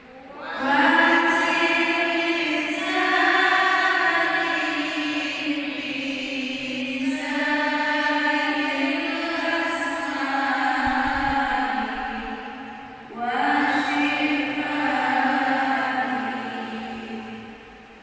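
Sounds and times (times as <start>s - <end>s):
woman chanting into a microphone: 0.0s - 17.5s.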